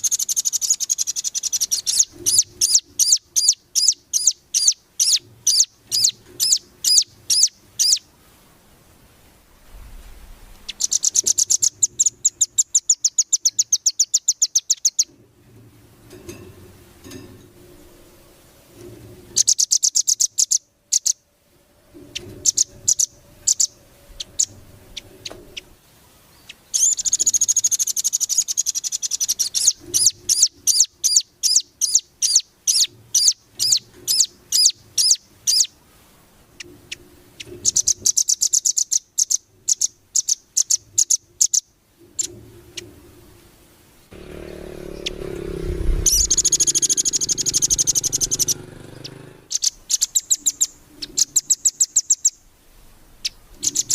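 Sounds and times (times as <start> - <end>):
songbird singing trills: 0.0 - 8.1, 10.6 - 15.2, 19.3 - 21.3, 22.0 - 35.8, 36.6 - 42.9, 44.2 - 52.5, 53.2 - 53.9.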